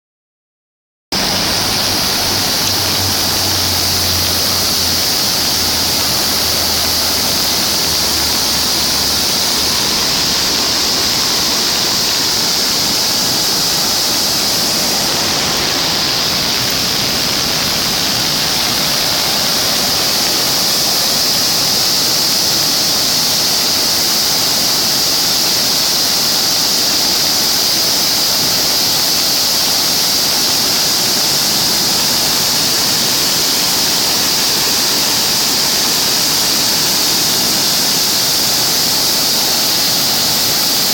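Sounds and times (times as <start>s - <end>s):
flooded river rushing: 1.2s - 40.9s.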